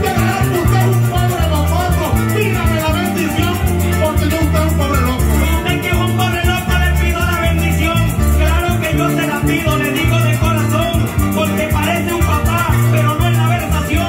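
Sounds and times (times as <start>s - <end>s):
cuatro plucking: 0.0s - 14.0s
electric bass notes: 0.0s - 14.0s
maracas shaking: 0.0s - 14.0s.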